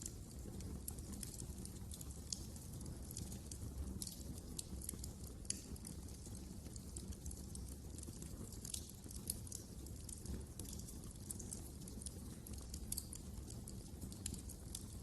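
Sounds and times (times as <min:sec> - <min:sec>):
low rumble of burning: 0:00.0 - 0:15.0
wood fire crackling: 0:00.0 - 0:15.0.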